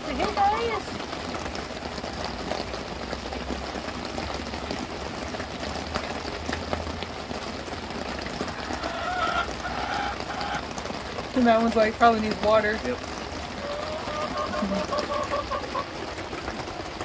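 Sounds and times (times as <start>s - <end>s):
heavy rain on a tarp: 0.0s - 17.0s.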